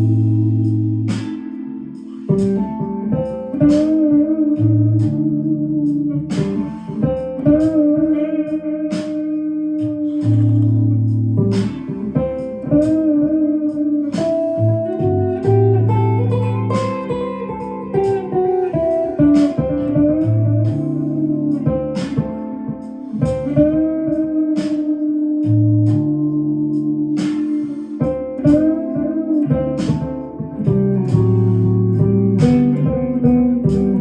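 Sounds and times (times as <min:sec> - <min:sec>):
steady bass: 0:00.0 - 0:08.4, 0:09.8 - 0:22.2, 0:25.4 - 0:27.4, 0:28.4 - 0:34.0
electric guitar lead line: 0:00.0 - 0:34.0
percussive hits: 0:01.1 - 0:01.6, 0:02.2 - 0:26.2, 0:27.2 - 0:34.0.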